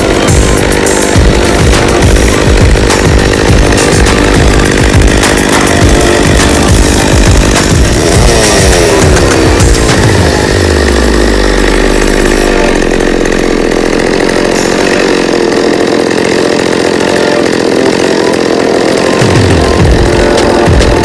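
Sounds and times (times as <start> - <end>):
chainsaw engine idling: 0.0 - 21.0.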